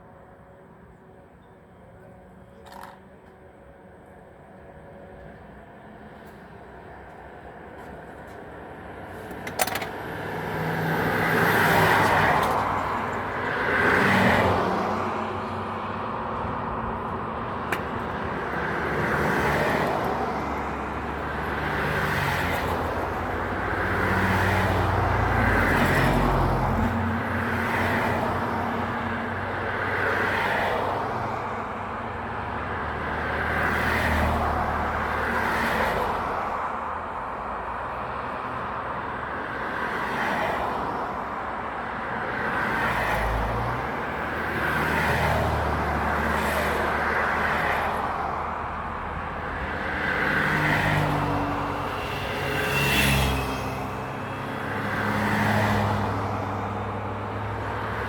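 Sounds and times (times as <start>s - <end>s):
road traffic passing: 2.2s - 58.0s.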